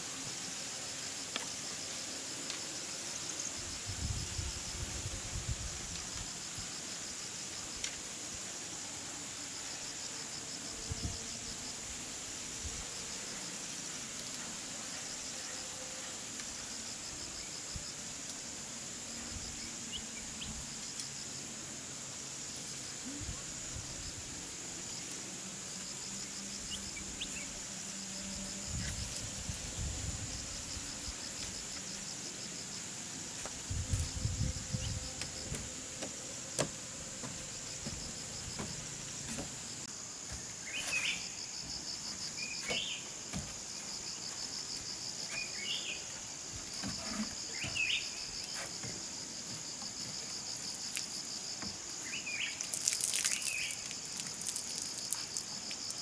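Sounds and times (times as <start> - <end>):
chirring insects: 0.0 - 56.0.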